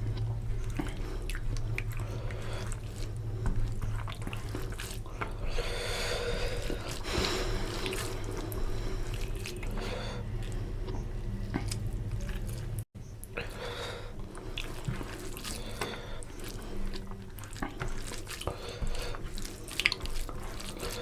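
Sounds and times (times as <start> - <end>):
wet squelching of eating by hand: 0.0 - 21.0.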